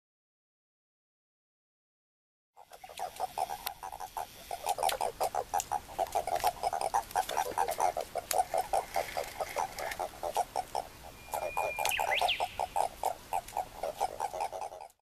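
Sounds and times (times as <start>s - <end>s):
toads croaking: 2.6s - 15.0s.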